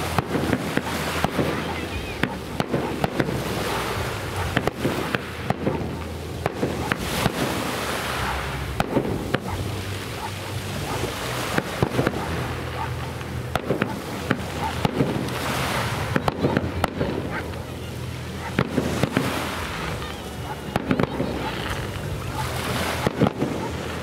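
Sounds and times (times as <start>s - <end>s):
background rumble: 0.0s - 24.0s
fireworks bangs and crackles: 0.0s - 24.0s.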